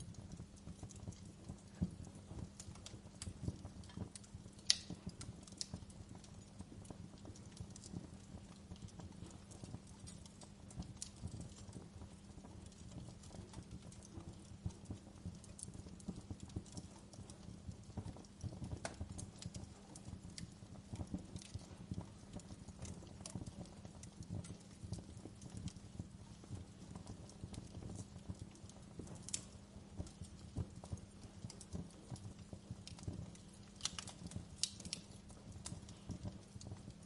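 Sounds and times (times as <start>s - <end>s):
steady low hum: 0.0s - 37.0s
wood fire crackling: 0.0s - 37.0s.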